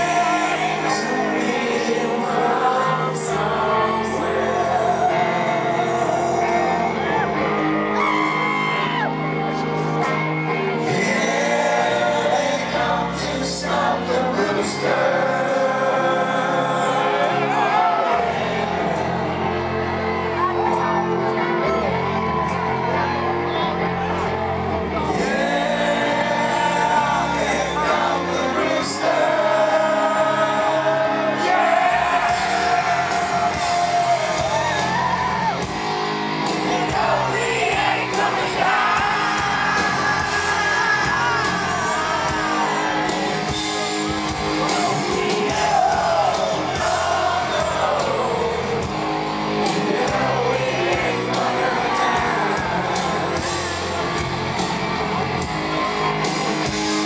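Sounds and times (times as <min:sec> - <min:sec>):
person singing: 0:00.0 - 0:19.6, 0:24.8 - 0:35.7, 0:36.4 - 0:49.0, 0:49.6 - 0:54.2
bass: 0:00.0 - 0:57.0
drums: 0:00.0 - 0:57.0
electric guitars: 0:00.0 - 0:57.0.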